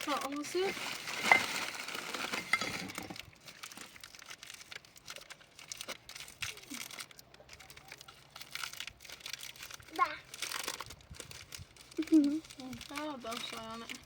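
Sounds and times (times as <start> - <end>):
crinkling rustling handling noise: 0.0 - 14.0.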